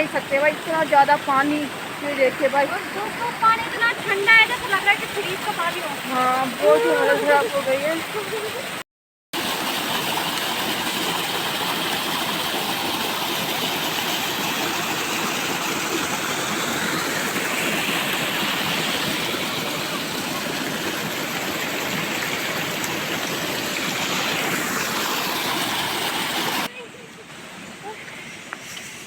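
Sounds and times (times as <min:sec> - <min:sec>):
rainwater runoff rushing: 0:00.0 - 0:08.8, 0:09.4 - 0:29.0.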